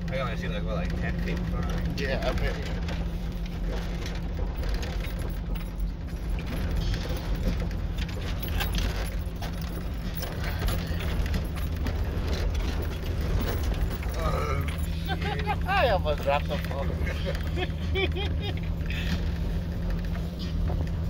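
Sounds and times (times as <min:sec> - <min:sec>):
jangling and rattling: 0:00.0 - 0:21.0
vehicle engine and road drone: 0:00.0 - 0:21.0.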